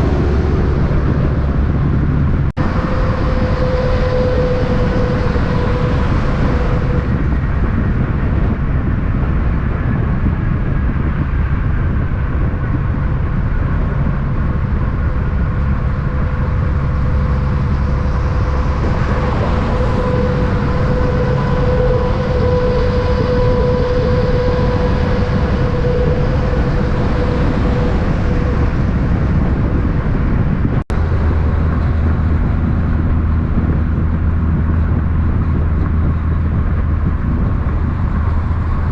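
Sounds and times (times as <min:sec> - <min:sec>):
road noise: 0:00.0 - 0:38.9
vehicle engine rumble: 0:00.0 - 0:38.9.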